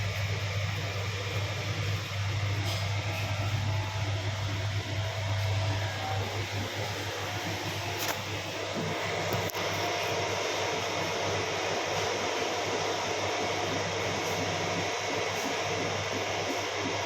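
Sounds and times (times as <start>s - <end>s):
printer fans and motors whirring: 0.0s - 17.0s.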